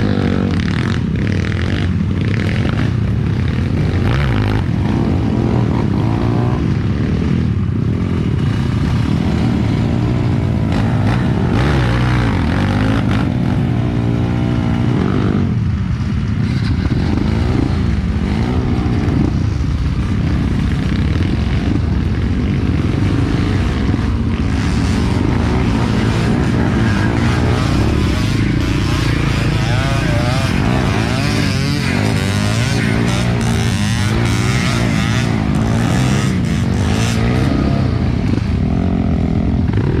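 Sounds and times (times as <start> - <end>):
dirt bike engine revving: 0.0 - 15.5, 16.2 - 40.0.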